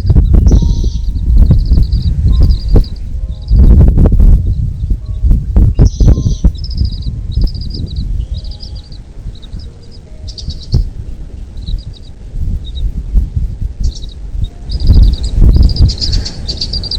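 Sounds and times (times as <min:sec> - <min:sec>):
low thumps and rumbling: 0:00.0 - 0:16.9
small bird chirping: 0:00.1 - 0:12.9, 0:13.8 - 0:16.9.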